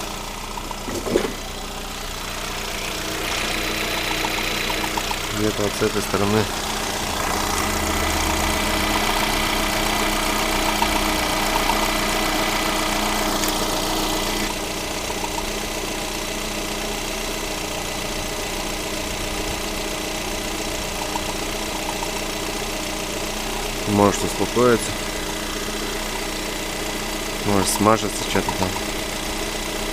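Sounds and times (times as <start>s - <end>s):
car engine idling with knocking: 0.0s - 29.9s.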